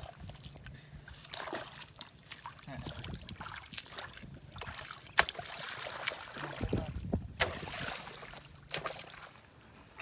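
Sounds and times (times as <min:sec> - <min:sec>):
muddy water sloshing and splashing: 0:00.0 - 0:09.8.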